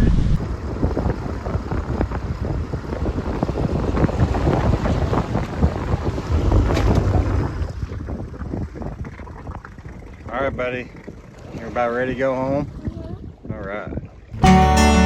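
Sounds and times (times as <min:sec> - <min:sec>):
wind buffeting microphone: 0:00.0 - 0:14.4.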